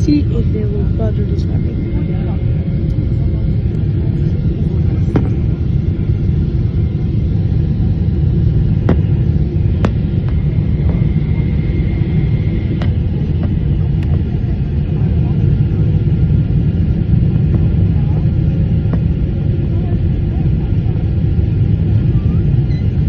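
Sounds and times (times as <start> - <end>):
airplane cabin engine rumble: 0.0 - 23.0.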